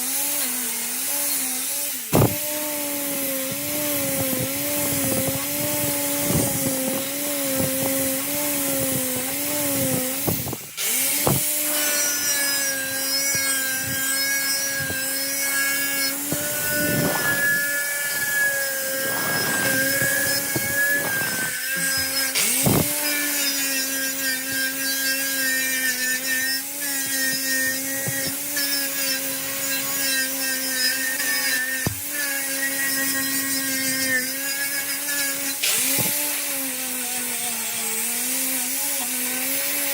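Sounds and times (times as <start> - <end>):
power tool motor running: 0.0 - 39.9
tool scraping metal: 0.0 - 39.9.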